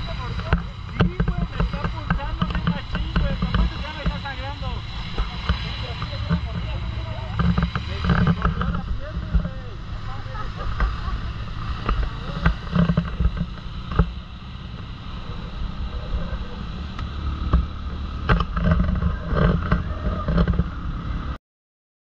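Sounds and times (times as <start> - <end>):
motorcycle engine running: 0.0 - 21.4
wind noise on microphone: 0.0 - 21.4.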